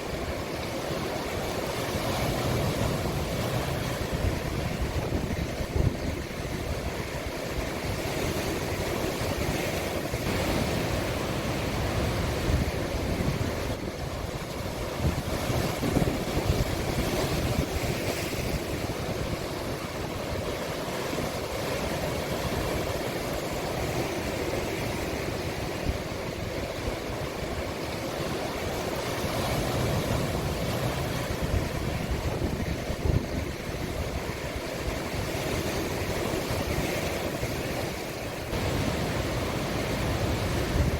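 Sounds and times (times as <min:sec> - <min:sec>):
sea waves washing into cove: 0:00.0 - 0:40.9.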